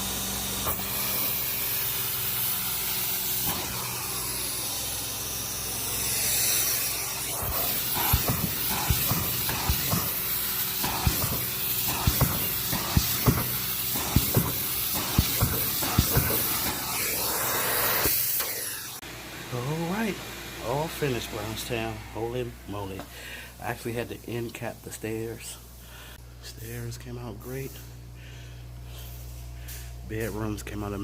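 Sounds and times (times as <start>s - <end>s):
carpet cleaning machine hissing: 0.0s - 26.2s.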